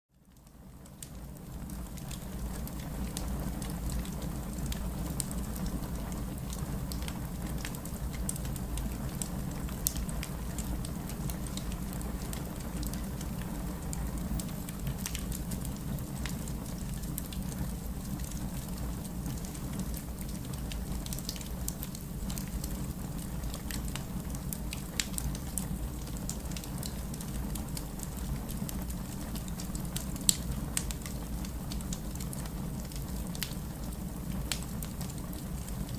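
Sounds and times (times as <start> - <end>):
fire crackles and pops: 0.2 - 35.9
fire flames rumbling: 0.8 - 35.9.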